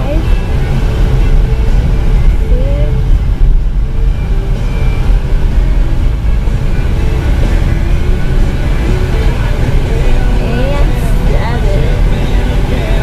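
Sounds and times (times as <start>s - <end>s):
road and wind noise rumble: 0.0s - 13.0s.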